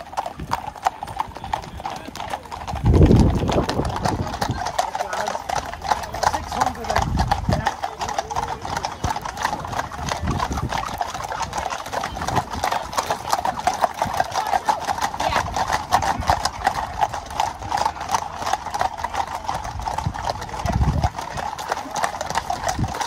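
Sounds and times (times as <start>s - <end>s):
horse hooves on wet tarmac: 0.0s - 23.0s.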